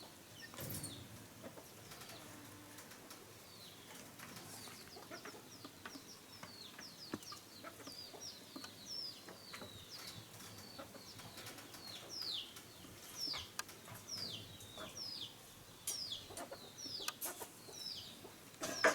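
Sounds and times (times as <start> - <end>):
chicks peeping: 3.1 - 18.9.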